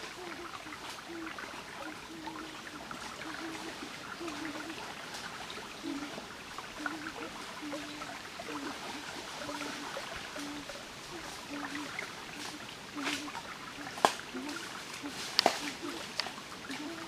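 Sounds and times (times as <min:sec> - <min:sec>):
stream trickling over rocks: 0:00.0 - 0:17.0
wading splashes: 0:00.0 - 0:17.0.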